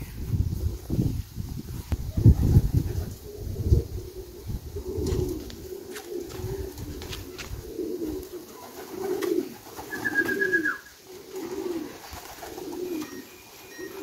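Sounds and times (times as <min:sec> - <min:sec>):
pigeons cooing: 0:02.0 - 0:14.0.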